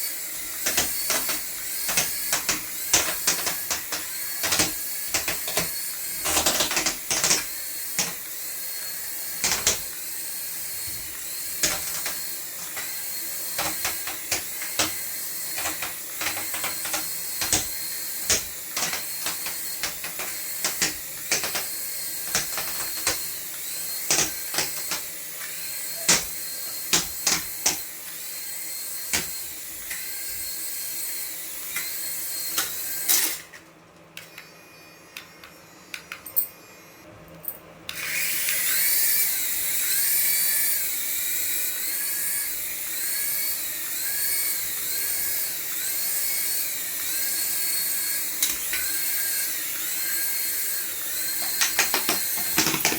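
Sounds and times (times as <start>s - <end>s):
small motor whirring: 0.0s - 33.6s, 34.2s - 37.0s, 37.9s - 52.9s.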